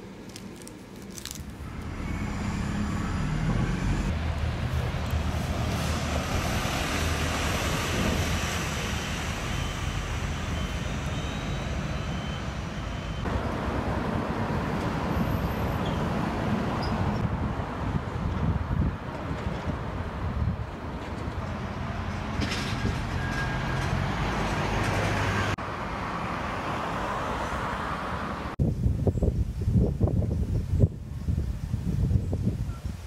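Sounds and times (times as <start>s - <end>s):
city traffic rumble: 0.0s - 32.9s.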